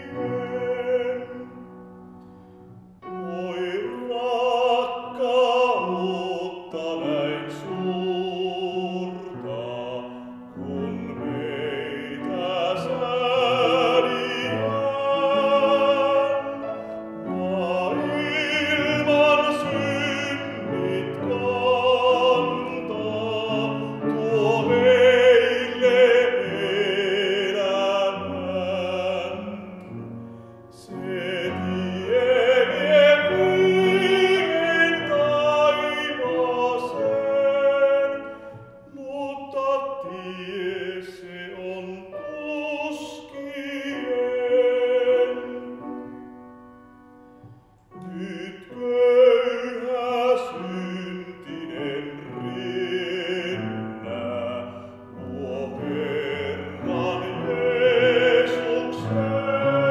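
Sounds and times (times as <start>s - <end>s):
man singing a hymn: 0.0s - 1.9s, 3.0s - 46.3s, 47.9s - 59.9s.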